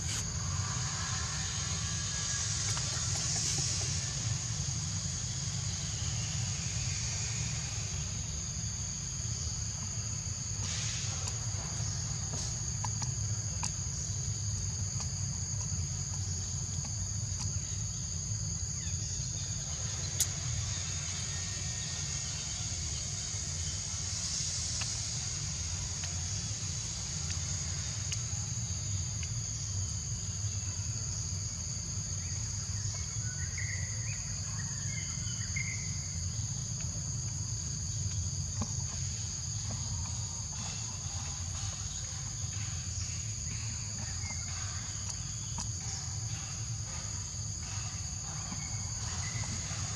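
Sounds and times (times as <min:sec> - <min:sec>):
insects shrilling: 0:00.0 - 0:49.9.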